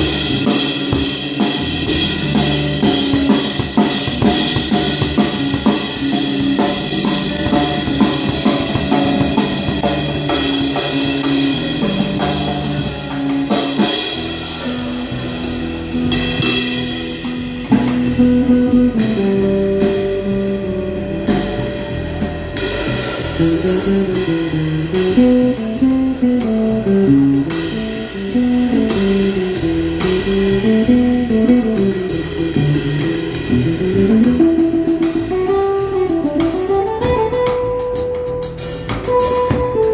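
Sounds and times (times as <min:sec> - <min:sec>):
bass guitar: 0:00.0 - 0:39.9
drum kit: 0:00.0 - 0:39.9
electric guitar melody: 0:00.0 - 0:39.9.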